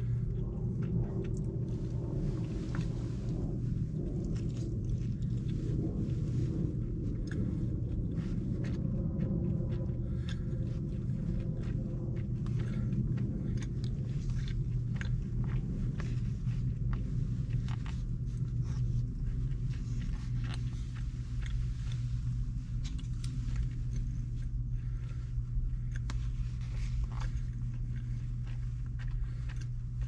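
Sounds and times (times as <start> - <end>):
low rumble in car cabin: 0.0 - 30.0
person chewing food: 0.0 - 30.0.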